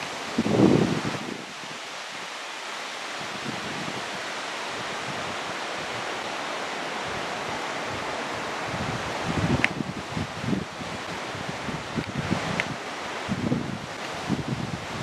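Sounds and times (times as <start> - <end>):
steady wind: 0.0 - 15.0.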